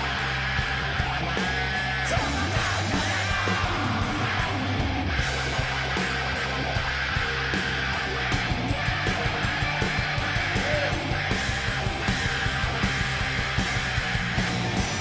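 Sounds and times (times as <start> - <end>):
bass guitar: 0.0 - 15.0
drums: 0.0 - 15.0
electric guitar: 0.0 - 15.0.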